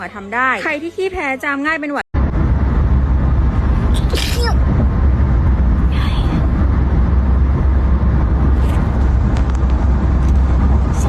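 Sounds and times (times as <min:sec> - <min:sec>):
moving vehicle rumble: 0:00.0 - 0:11.0.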